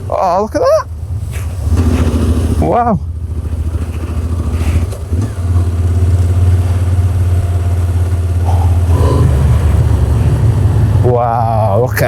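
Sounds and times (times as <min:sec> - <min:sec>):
motorcycle engine low drone: 0:00.0 - 0:12.0.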